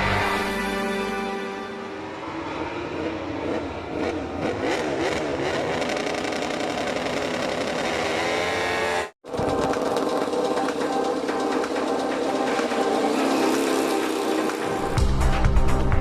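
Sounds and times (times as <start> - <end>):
racing motorcycle engine revving: 2.1 - 15.4.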